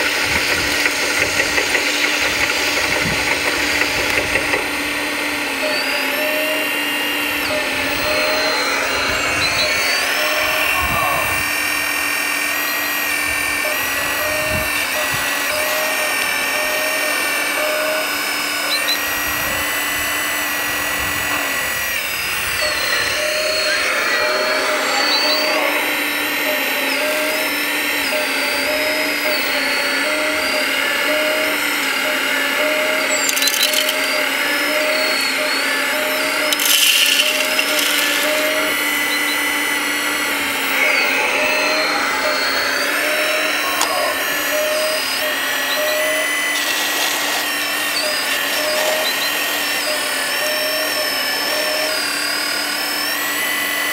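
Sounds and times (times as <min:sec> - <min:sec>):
electric motor and hydraulic pump whine: 0:00.0 - 0:53.9.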